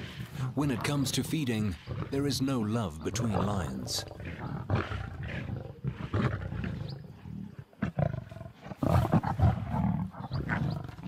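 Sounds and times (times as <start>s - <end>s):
lions growling: 0.0s - 11.0s.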